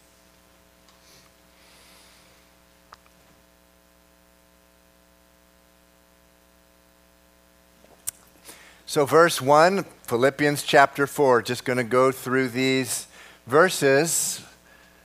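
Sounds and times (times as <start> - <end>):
low electrical hum with hiss: 0.0 - 15.0.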